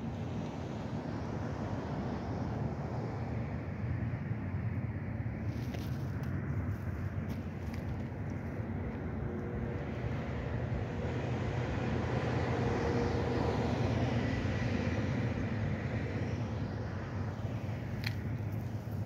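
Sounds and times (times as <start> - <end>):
aircraft rumbling overhead: 0.0 - 19.0.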